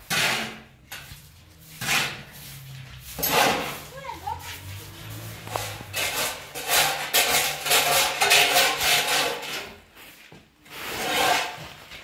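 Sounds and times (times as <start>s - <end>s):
rasping scraping strokes: 0.0s - 12.0s.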